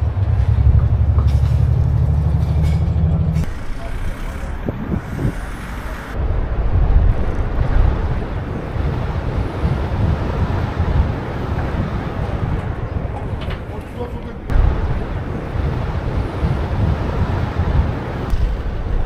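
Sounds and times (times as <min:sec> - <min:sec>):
deep engine rumble: 0:00.0 - 0:19.0
traffic and tyre noise: 0:00.0 - 0:19.0.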